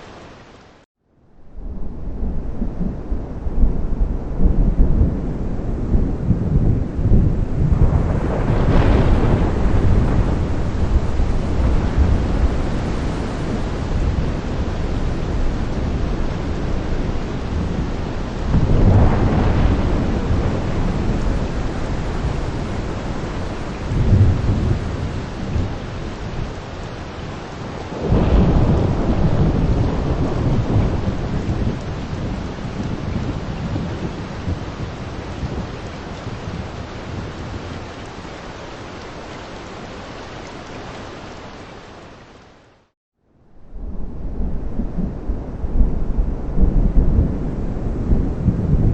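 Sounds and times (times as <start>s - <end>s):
heavy rain falling: 0.0s - 0.9s, 1.6s - 42.9s, 43.7s - 48.9s
rolling thunder: 1.4s - 38.2s, 43.4s - 48.9s.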